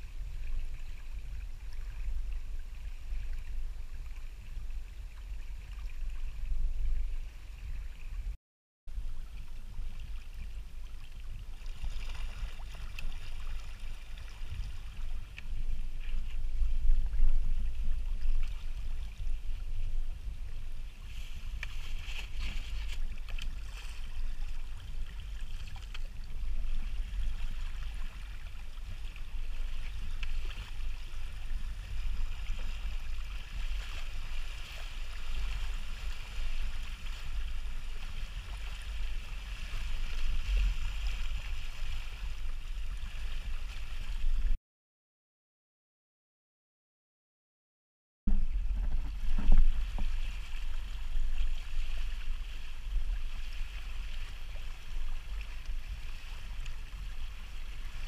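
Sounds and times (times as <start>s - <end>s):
water gurgling along hulls: 0.0s - 44.6s, 48.3s - 58.0s
wind rumble on microphone: 0.0s - 44.6s, 48.3s - 58.0s.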